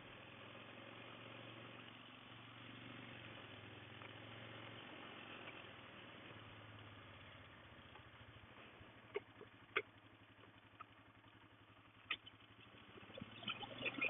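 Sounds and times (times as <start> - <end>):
faint engine idling: 0.0 - 14.0.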